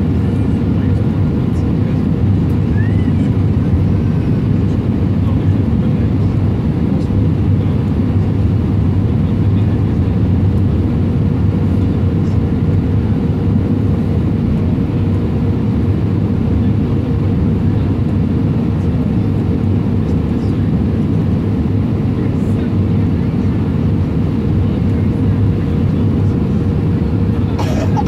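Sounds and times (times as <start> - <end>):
deep rush of engines and airflow: 0.0 - 28.0.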